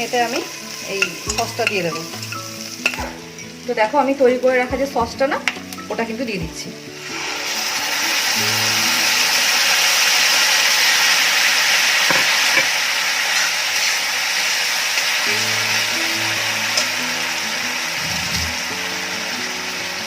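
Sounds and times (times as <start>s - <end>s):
sauce sizzling in hot oil: 0.0s - 6.2s, 6.8s - 20.0s.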